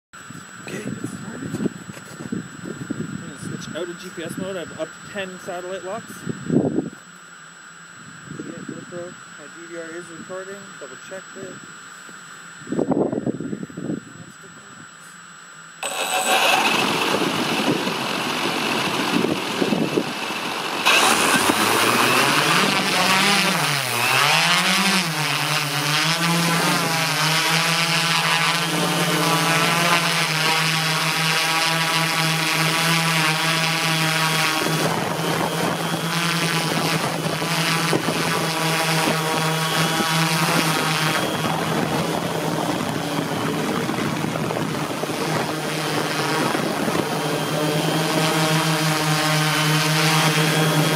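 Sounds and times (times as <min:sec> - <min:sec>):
wind noise on microphone: 0:00.2 - 0:07.0, 0:08.0 - 0:10.5, 0:12.5 - 0:15.0, 0:16.3 - 0:50.9
drone motors and propellers humming: 0:00.2 - 0:50.9.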